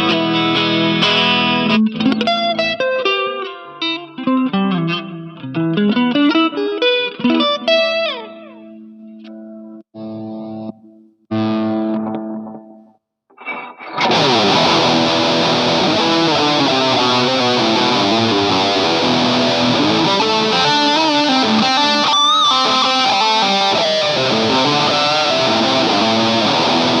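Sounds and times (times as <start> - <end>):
distorted electric guitar: 0.0 - 8.2, 10.0 - 27.0.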